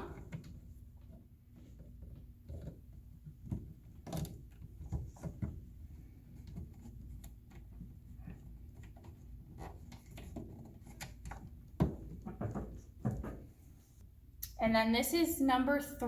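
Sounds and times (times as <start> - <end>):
plastic parts clicking and knocking: 0.0 - 13.5.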